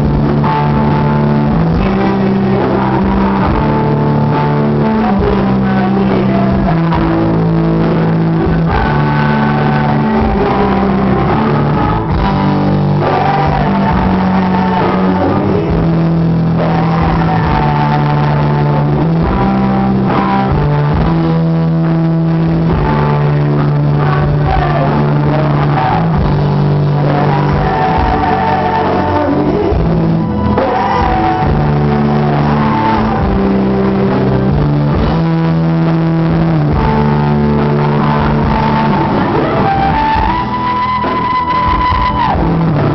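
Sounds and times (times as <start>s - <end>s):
bass line: 0.0s - 42.9s
person singing: 0.0s - 42.9s
rock band playing: 0.0s - 42.9s.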